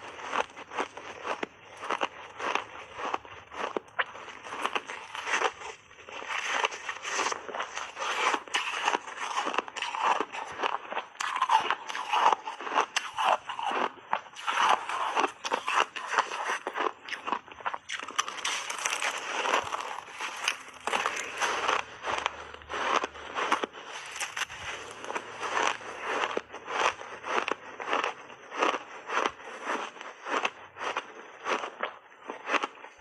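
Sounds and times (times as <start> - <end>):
ice cracking and crunching: 0.0 - 31.0.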